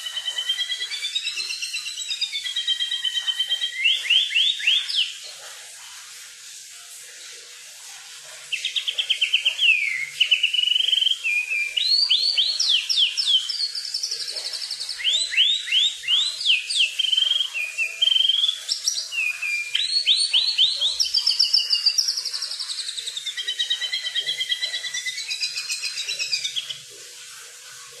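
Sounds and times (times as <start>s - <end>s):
songbird singing trills: 0.0s - 5.4s, 8.5s - 27.0s.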